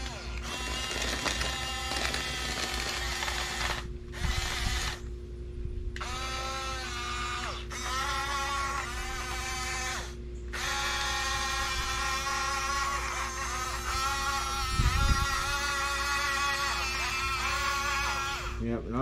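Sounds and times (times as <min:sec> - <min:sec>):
toy bulldozer motors whining: 0:00.0 - 0:05.1, 0:06.0 - 0:18.6.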